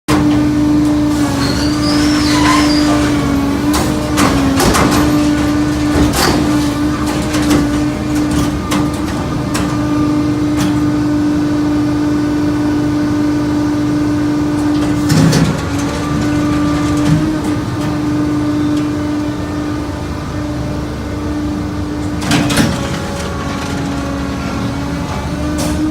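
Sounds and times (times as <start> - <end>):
hydraulic power unit whine: 0.1 - 25.9.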